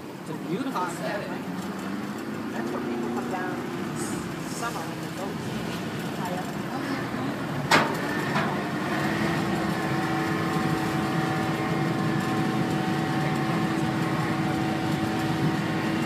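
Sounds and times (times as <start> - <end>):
engine droning steadily: 0.0 - 16.0.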